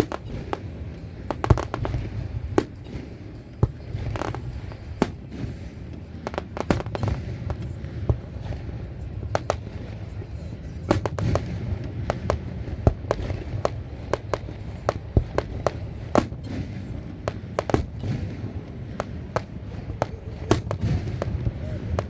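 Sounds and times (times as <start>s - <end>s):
fireworks bangs and crackles: 0.0s - 22.0s
low rumble of distant bursts: 0.0s - 22.0s.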